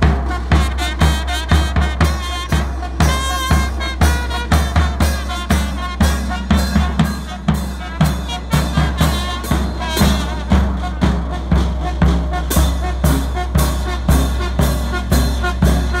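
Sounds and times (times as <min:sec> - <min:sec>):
bass drum and cymbals beating: 0:00.0 - 0:16.0
brass band playing: 0:00.0 - 0:16.0.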